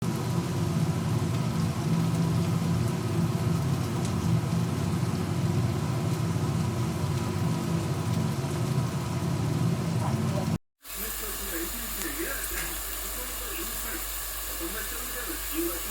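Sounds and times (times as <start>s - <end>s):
potatoes frying in hot oil: 0.0s - 15.9s.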